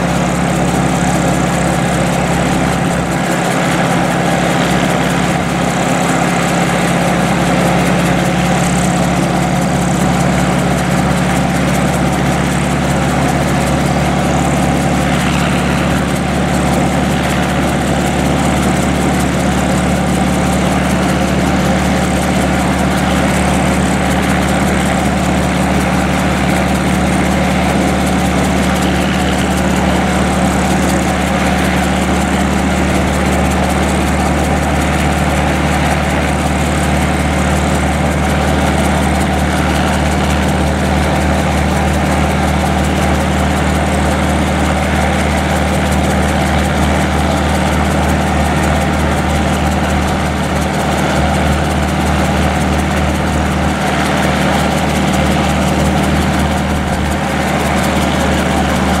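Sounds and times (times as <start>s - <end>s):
helicopter engine idling: 0.0s - 59.0s.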